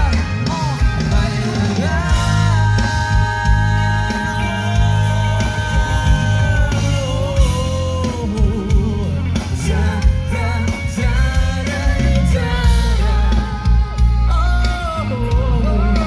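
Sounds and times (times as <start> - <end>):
heavy bass: 0.0 - 16.0
lead singer singing: 0.0 - 16.0
live pop-rock band playing: 0.0 - 16.0.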